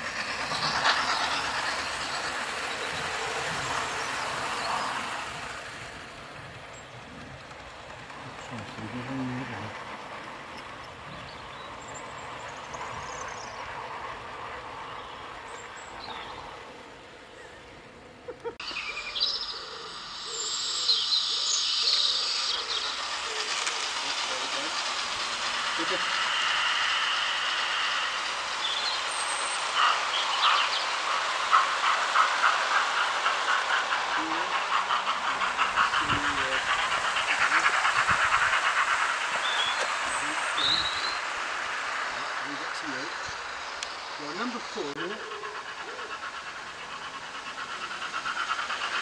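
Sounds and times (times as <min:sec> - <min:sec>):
model train wheels on rails: 0:00.0 - 0:49.0.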